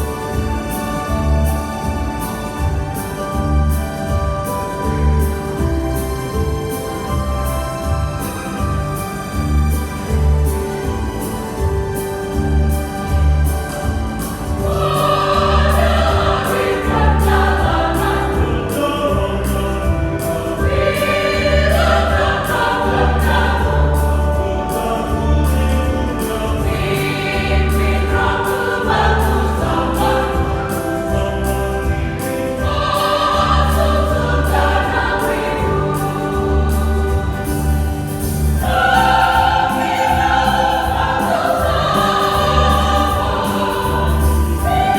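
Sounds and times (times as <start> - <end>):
choir singing a hymn: 0.0 - 44.9
instrumental accompaniment: 0.0 - 44.9.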